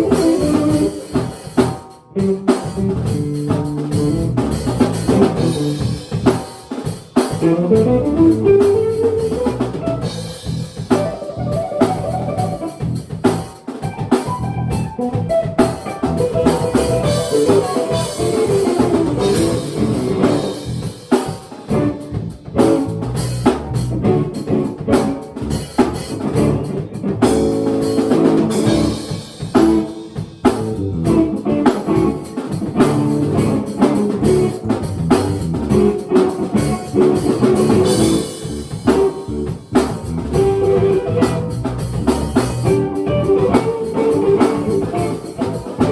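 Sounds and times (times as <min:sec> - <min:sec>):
drum kit beat: 0:00.0 - 0:45.9
guitar playing: 0:00.0 - 0:45.9.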